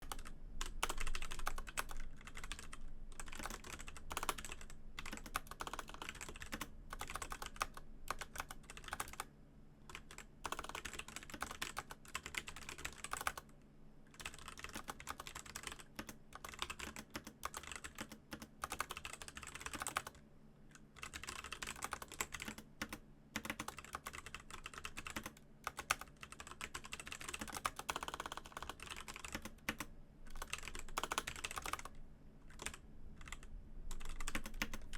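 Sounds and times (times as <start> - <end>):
mechanical keyboard typing: 0.0 - 9.3, 9.9 - 13.5, 14.1 - 34.9.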